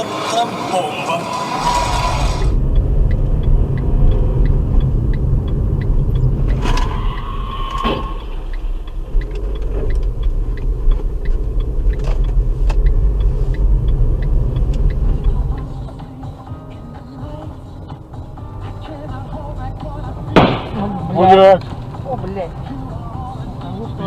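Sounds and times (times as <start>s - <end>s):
road and engine rumble: 0.0s - 24.0s
light regular ticking: 1.2s - 24.0s.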